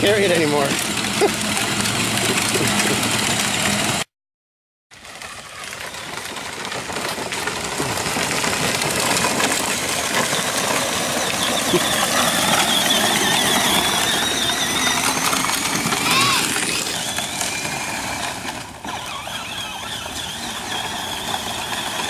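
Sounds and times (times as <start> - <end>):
tyres on trail: 0.0 - 4.1, 4.9 - 22.0
toy truck electric motor whine: 0.1 - 4.1, 5.0 - 22.0.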